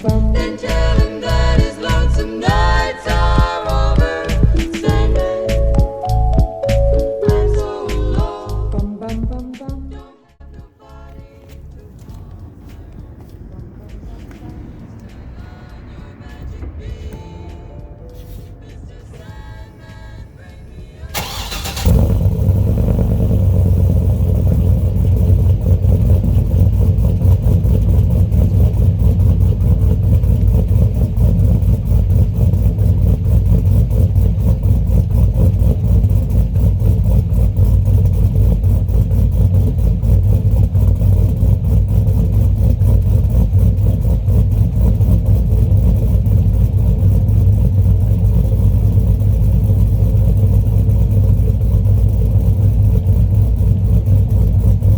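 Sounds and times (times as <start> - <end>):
car engine and exhaust running loudly: 0.0 - 5.8, 10.5 - 54.9.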